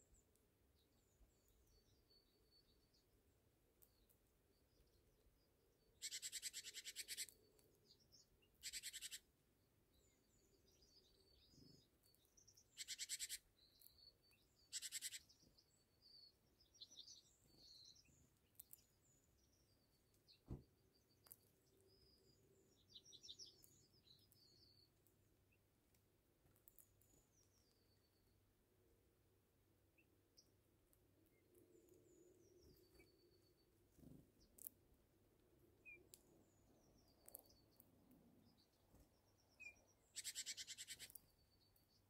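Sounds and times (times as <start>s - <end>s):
faint high bird chirps: 0.0s - 9.3s, 9.9s - 25.8s, 26.4s - 42.0s.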